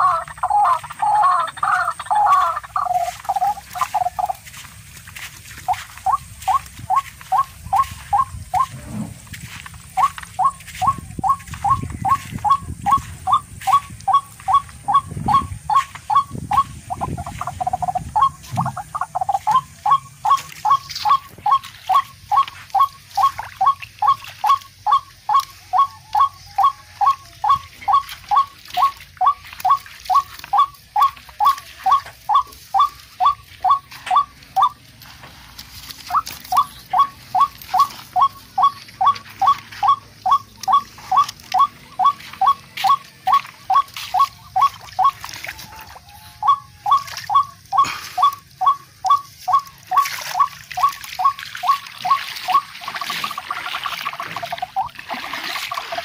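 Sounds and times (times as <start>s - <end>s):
bird calling short sharp notes: 5.6s - 9.2s, 9.8s - 34.8s, 36.0s - 52.8s.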